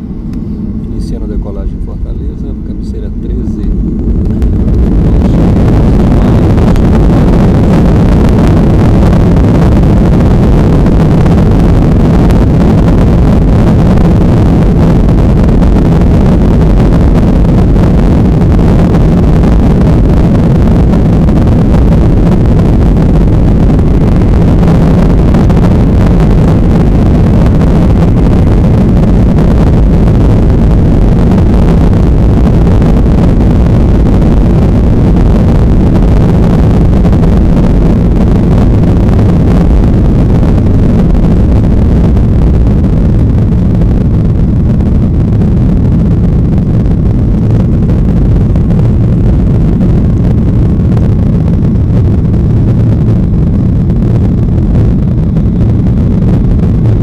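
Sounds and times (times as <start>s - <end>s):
jet engines from inside cabin: 0.0s - 57.0s.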